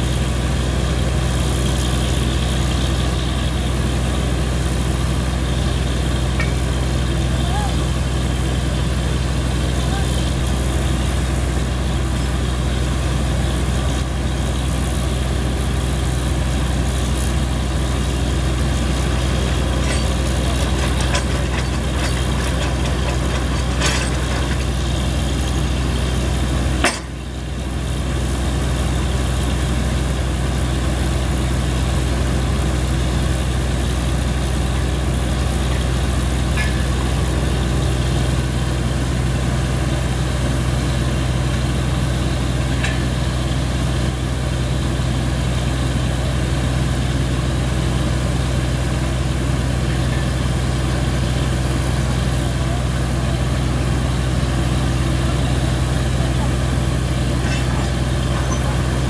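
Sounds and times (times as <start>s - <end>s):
drilling rig engine running: 0.0s - 59.0s.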